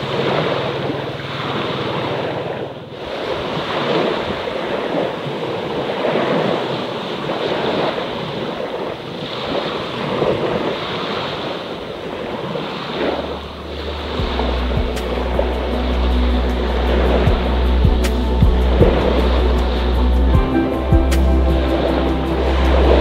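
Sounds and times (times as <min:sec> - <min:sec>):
small waves washing onto shore: 0:00.0 - 0:23.0.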